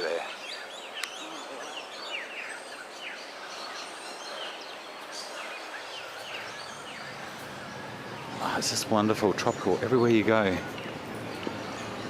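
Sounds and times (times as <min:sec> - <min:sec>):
birds chirping: 0:00.0 - 0:12.0
steady background hiss: 0:00.0 - 0:12.0.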